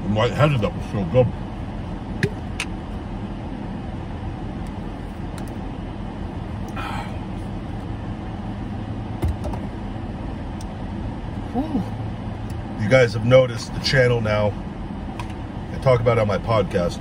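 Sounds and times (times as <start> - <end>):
car air conditioning hum: 0.0 - 17.0.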